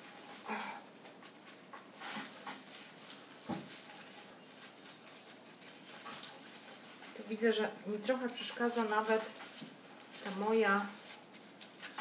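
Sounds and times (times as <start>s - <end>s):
spruce branches rustling: 0.0s - 12.0s.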